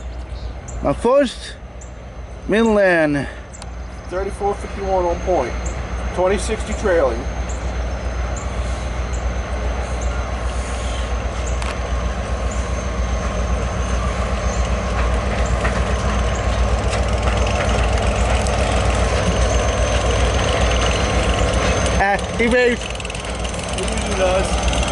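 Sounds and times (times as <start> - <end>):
diesel locomotive rumbling: 0.0 - 24.9
rail noise: 0.0 - 24.9
wheels clicking on rails: 2.5 - 24.9.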